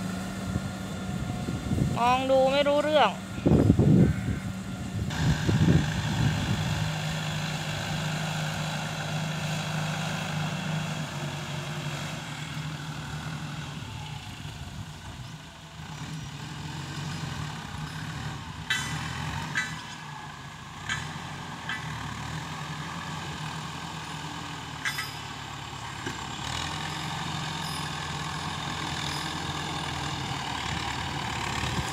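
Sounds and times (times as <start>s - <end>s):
tractor diesel engine under load: 0.0s - 31.9s.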